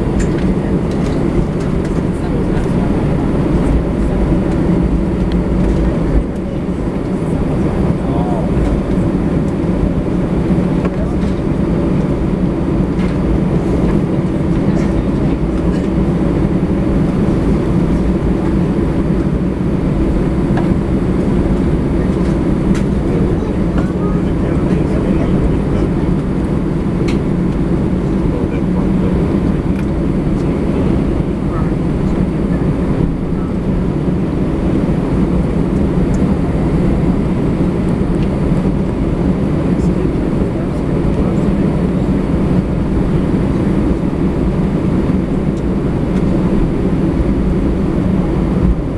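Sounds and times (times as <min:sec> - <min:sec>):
aircraft cabin rumble: 0:00.0 - 0:48.9.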